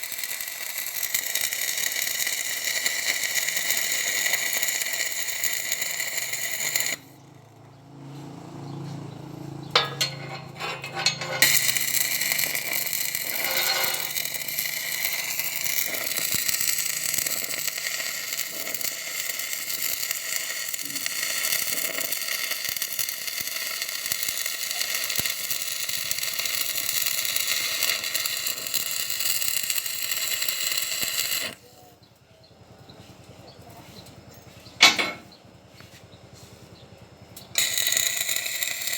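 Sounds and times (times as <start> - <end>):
circular saw whining: 0.0 - 8.0, 8.8 - 31.8, 37.4 - 38.9.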